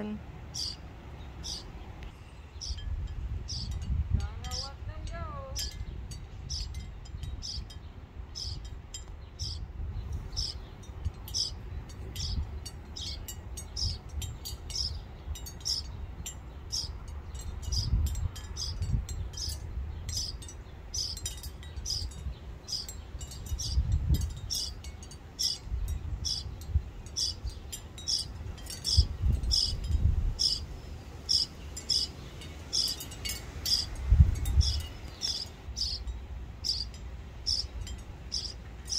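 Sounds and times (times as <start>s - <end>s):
bird chirping: 0.0s - 3.9s, 4.5s - 30.7s, 31.3s - 33.9s, 34.5s - 38.9s
wind rumble on microphone: 0.0s - 38.9s.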